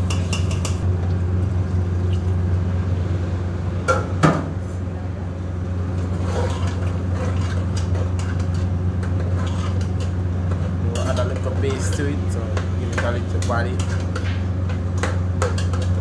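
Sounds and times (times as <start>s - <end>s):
low hum of kitchen machinery: 0.0s - 16.0s.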